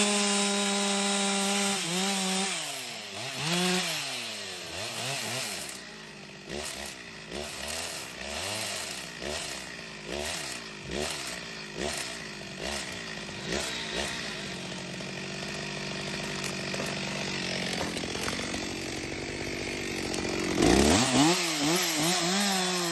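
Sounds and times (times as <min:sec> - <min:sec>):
chainsaw engine revving: 0:00.0 - 0:22.9.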